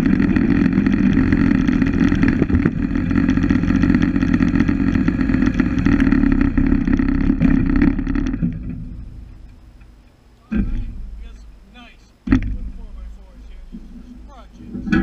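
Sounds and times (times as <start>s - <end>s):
bandsaw sawmill running: 0.0s - 9.0s, 10.6s - 15.0s.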